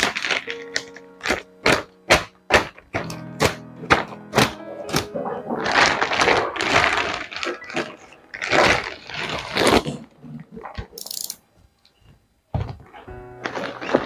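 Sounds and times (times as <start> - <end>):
plastic packing crinkling: 0.0 - 11.0, 12.6 - 14.0.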